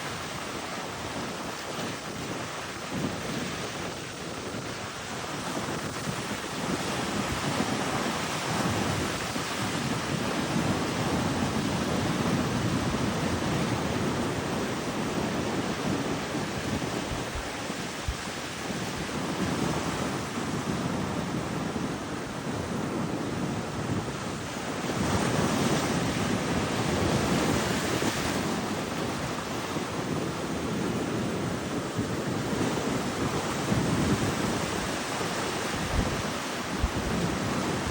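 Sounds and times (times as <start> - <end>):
wind rumble on microphone: 0.0 - 37.9
ocean surf breaking: 4.6 - 37.9.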